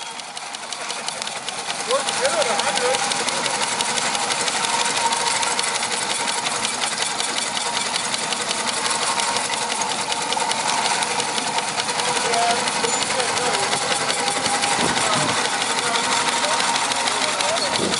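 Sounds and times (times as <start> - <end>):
steam engine chuffing: 0.0 - 17.9.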